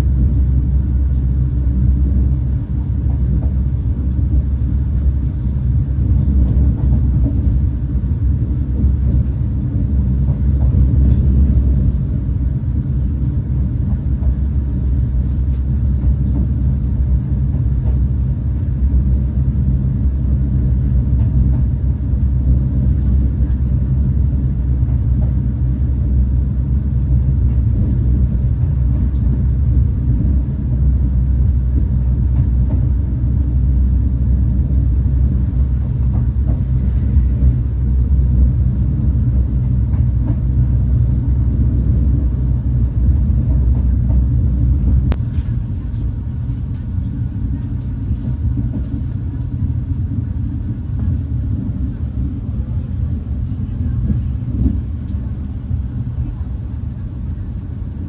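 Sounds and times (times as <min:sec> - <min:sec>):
train rumble inside coach: 0:00.0 - 0:58.0.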